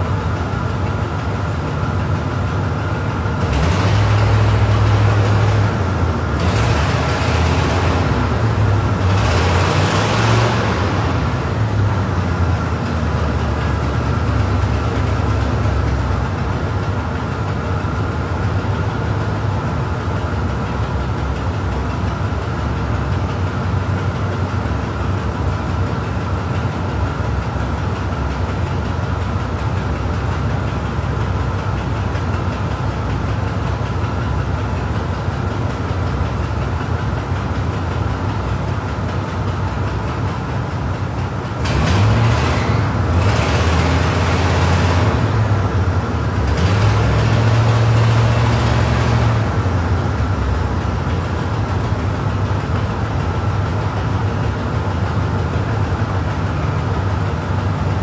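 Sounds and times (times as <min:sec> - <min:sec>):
car engines idling: 0:00.0 - 0:58.0.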